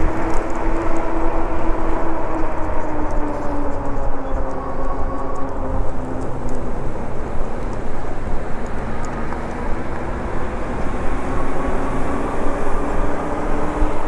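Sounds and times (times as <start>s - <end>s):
electric hub motor whine: 0.0s - 14.0s
tyre and road noise: 0.0s - 14.0s
wind rumble on microphone: 0.0s - 14.0s.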